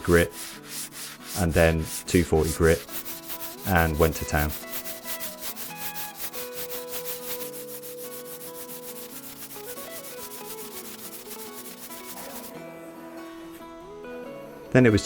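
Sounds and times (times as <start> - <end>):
metal plane rubbing on sandpaper: 0.0 - 12.5
quiet background music: 0.0 - 15.0.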